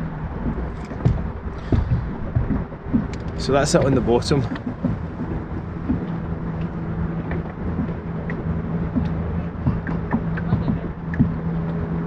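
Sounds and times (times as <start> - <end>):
low engine hum: 0.0 - 12.0
wind rumbling over microphone: 0.0 - 12.0.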